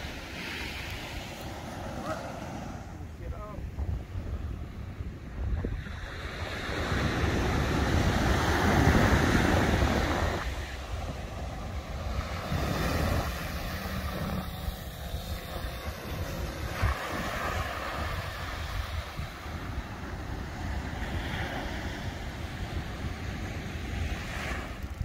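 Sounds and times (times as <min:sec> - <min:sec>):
surf washing up beach: 0:00.0 - 0:25.0
wind buffeting microphone: 0:00.0 - 0:25.0.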